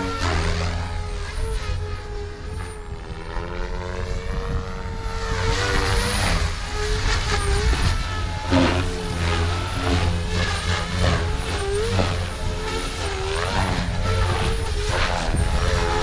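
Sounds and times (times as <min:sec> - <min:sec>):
rc helicopter rotor whine: 0:00.0 - 0:16.0
wind rumble on microphone: 0:00.0 - 0:16.0.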